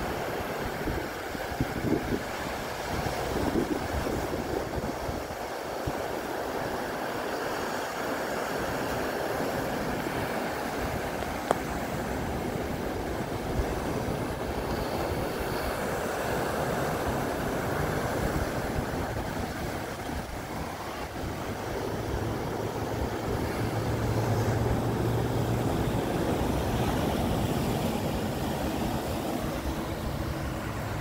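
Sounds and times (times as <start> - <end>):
wind gusting on microphone: 0.0 - 7.5, 8.4 - 31.0
surf breaking on beach: 0.0 - 31.0.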